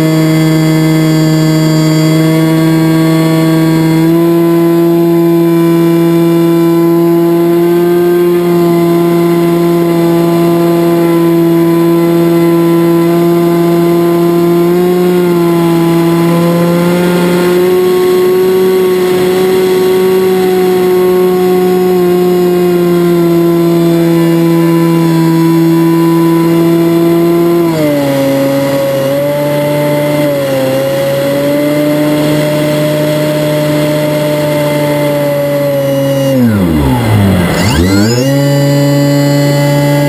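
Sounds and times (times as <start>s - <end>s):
electric motor and propeller humming: 0.0s - 40.0s.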